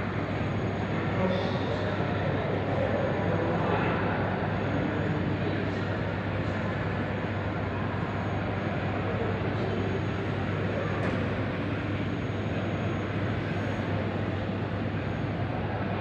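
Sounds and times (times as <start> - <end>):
aircraft engines running: 0.0 - 16.0.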